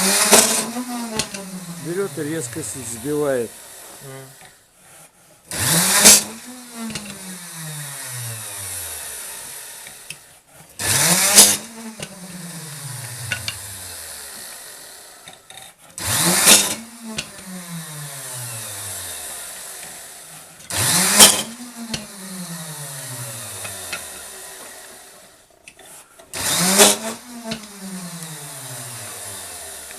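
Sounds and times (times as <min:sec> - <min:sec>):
electric drill boring through wood: 0:00.0 - 0:29.9.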